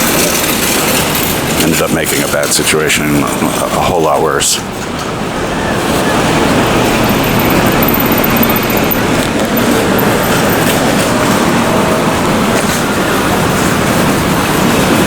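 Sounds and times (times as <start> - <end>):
subway train rumbling on rails: 0.0 - 15.0.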